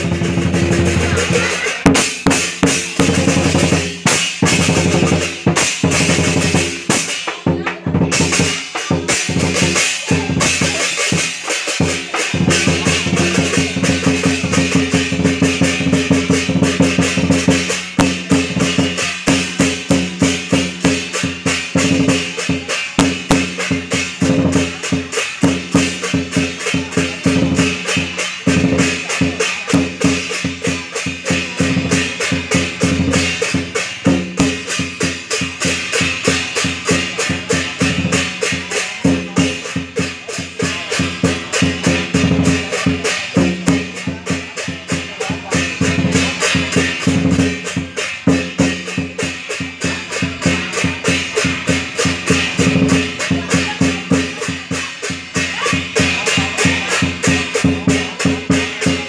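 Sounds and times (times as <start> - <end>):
drum and percussion beating: 0.0 - 59.0.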